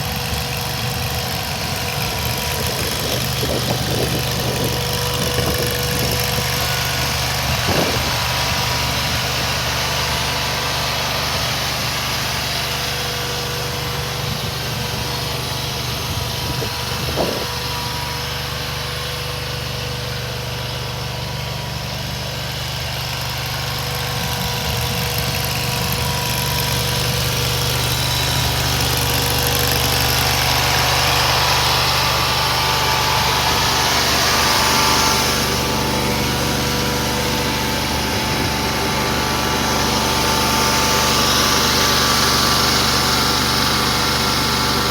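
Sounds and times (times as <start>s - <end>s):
loader engine idling: 0.0s - 44.9s.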